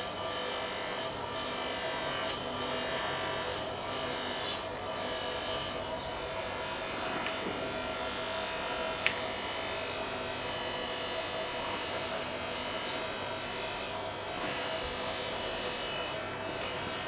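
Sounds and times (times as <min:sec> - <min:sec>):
steady buzzing hum: 0:00.0 - 0:17.0.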